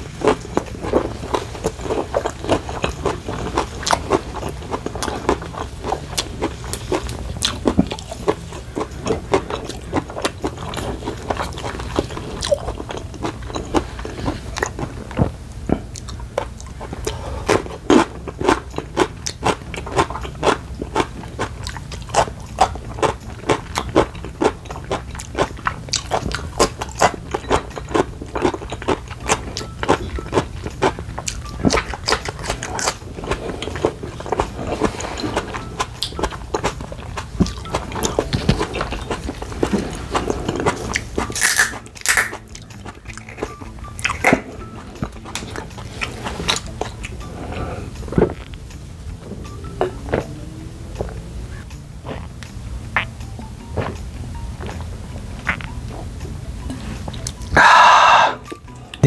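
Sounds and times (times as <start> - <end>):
chewing food with mouth clicks: 0.0 - 59.0.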